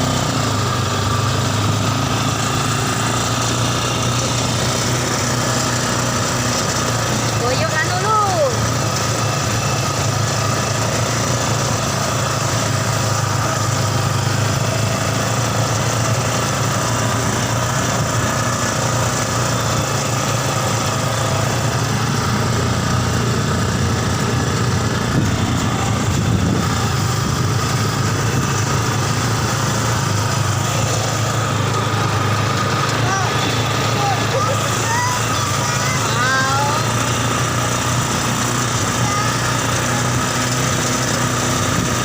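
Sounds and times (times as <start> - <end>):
motorcycle engine running steadily: 0.0 - 42.0.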